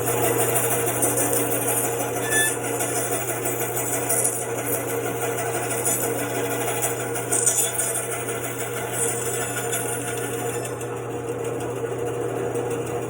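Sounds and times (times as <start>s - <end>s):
bandsaw cutting wood: 0.0s - 10.9s.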